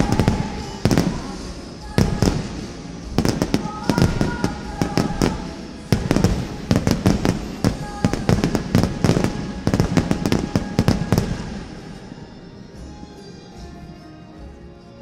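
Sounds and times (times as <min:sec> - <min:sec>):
fireworks bangs and crackle: 0:00.0 - 0:12.3
faint music: 0:00.0 - 0:15.0.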